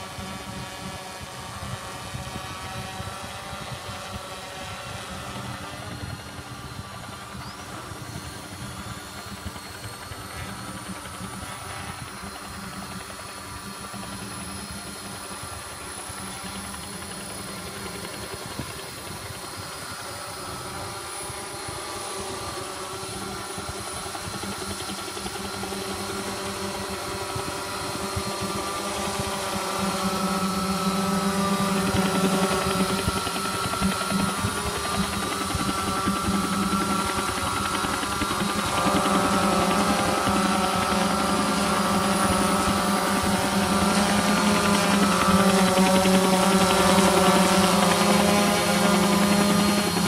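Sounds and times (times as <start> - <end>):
quadcopter engine-like drone: 0.0 - 50.0.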